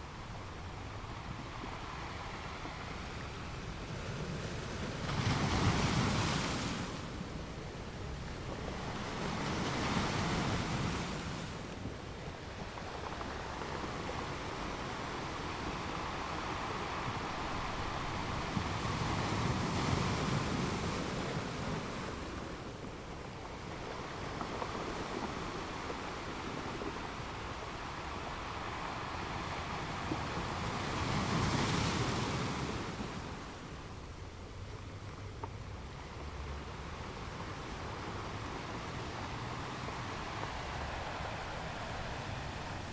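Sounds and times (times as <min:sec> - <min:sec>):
ocean waves breaking: 0:00.0 - 0:42.9.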